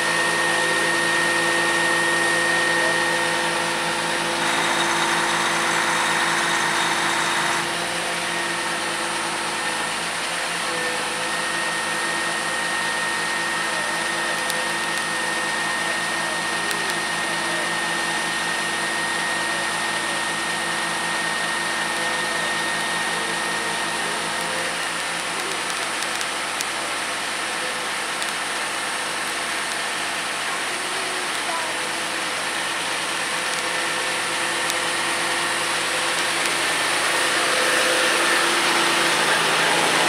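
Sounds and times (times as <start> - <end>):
high whine: 0.0 - 40.0
truck engine and hydraulic crane: 0.0 - 40.0.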